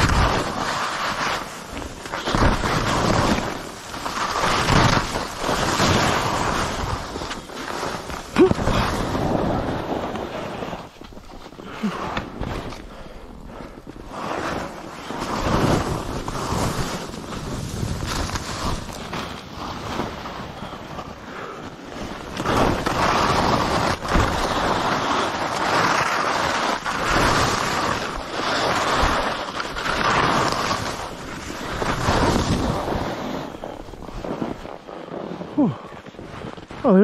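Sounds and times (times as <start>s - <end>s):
skis scraping over snow: 0.0s - 37.0s
wind rushing over microphone: 0.0s - 37.0s.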